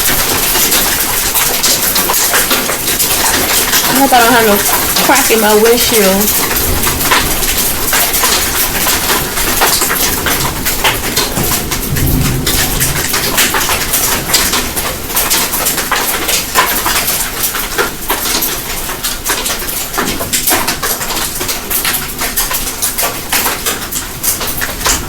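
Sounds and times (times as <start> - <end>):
hail pelting against a window: 0.0 - 25.0.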